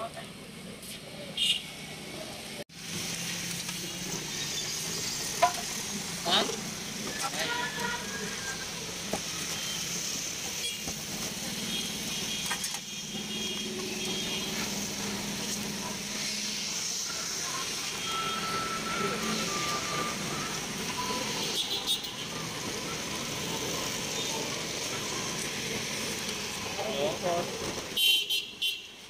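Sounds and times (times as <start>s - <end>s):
passing traffic: 0.0s - 29.0s.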